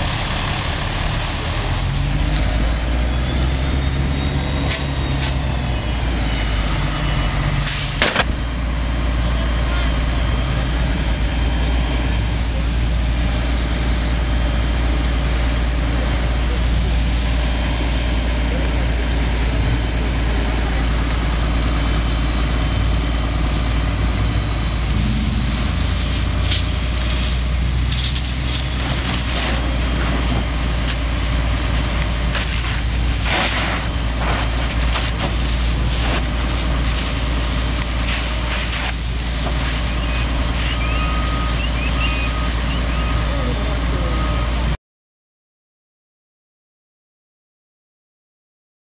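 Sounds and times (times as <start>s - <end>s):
heavy vehicle engine rumbling: 0.0s - 44.8s.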